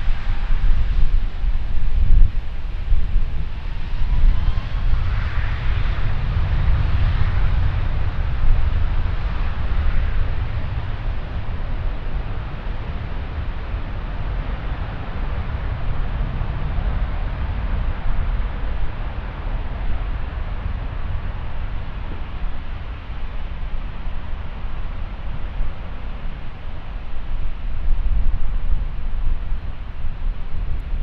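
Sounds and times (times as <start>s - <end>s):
jet engine noise: 0.0s - 31.0s
wind buffeting microphone: 0.0s - 31.0s.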